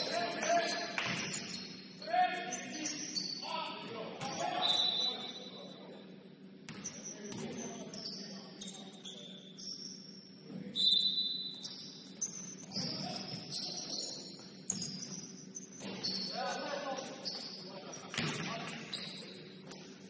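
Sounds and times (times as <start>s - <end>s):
sneakers squeaking on court floor: 0.0s - 3.5s, 6.7s - 20.0s.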